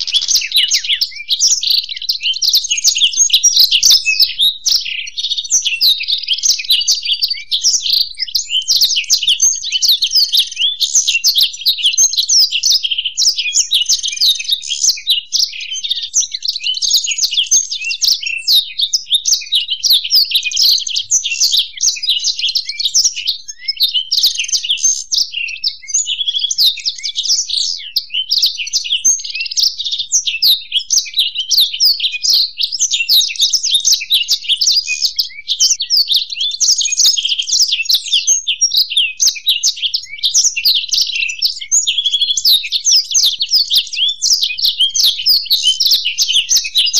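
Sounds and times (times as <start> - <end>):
songbirds twittering: 0.0 - 46.9.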